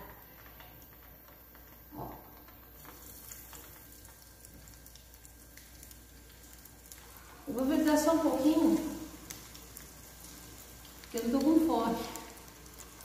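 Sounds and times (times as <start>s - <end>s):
hot oil sizzling: 0.0s - 13.0s
light crackles: 0.0s - 13.0s.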